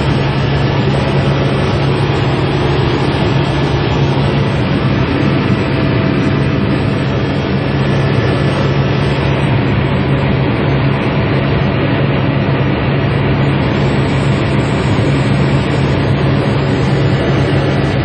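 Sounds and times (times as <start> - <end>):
helicopter engine and rotor drone: 0.0 - 18.0.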